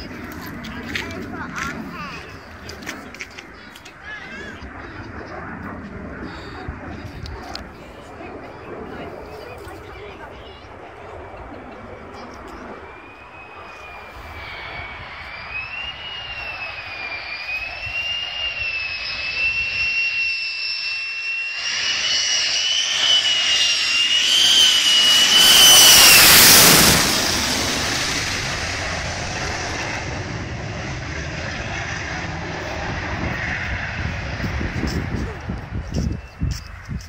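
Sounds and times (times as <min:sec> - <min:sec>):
jet flying overhead: 0:00.0 - 0:37.0.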